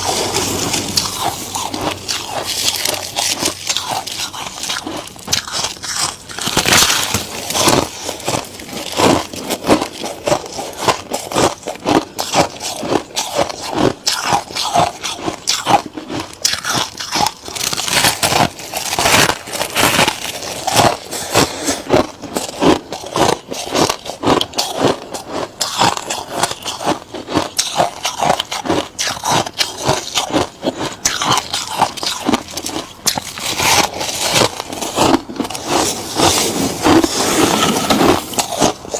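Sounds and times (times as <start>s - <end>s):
frost being chewed crunching: 0.0s - 38.9s.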